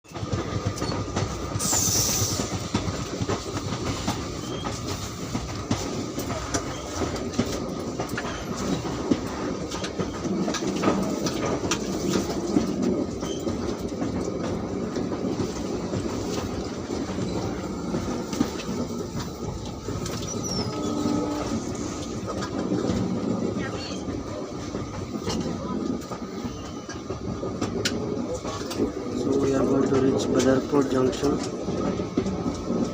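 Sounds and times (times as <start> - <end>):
passenger train rumbling: 0.0 - 32.9
wheels clacking over rail joints: 0.1 - 32.9.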